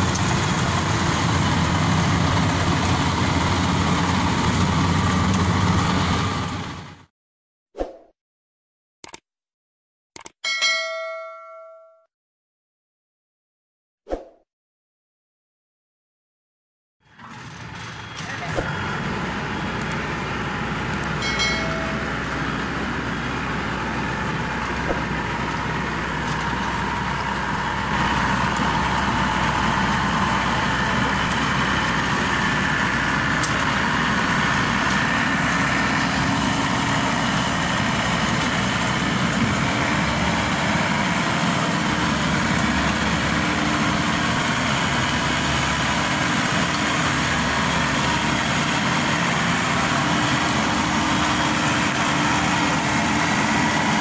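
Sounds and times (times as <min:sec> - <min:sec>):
diesel engine running: 0:00.0 - 0:07.1, 0:17.0 - 0:54.0.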